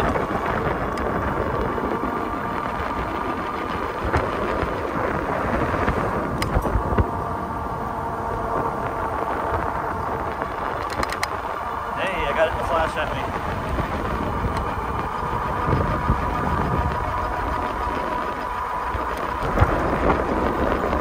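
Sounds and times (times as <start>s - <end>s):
faint steady whine: 0.0s - 21.0s
wind buffeting microphone: 0.0s - 21.0s.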